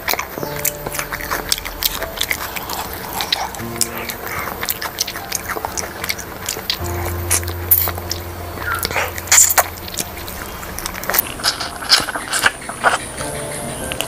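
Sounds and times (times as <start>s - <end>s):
lip smacks and sucking: 0.0s - 14.0s
low steady hum: 0.0s - 14.0s
person chewing: 0.0s - 14.0s.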